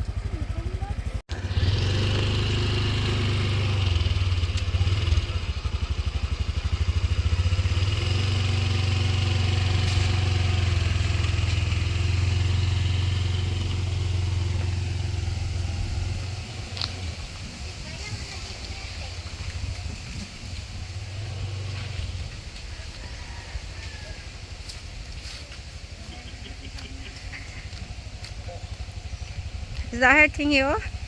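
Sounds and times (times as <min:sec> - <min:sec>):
small motorcycle engine running: 0:00.0 - 0:31.0.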